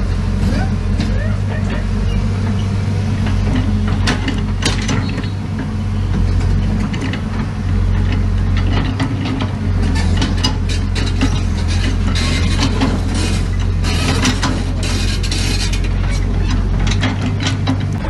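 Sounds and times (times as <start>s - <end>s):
bulldozer diesel engine running: 0.0s - 18.0s
steel tracks clanking: 0.0s - 18.0s.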